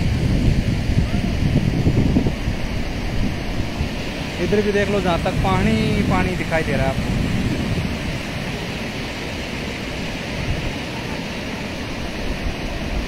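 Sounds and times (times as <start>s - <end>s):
river water rushing over weir: 0.0s - 13.0s.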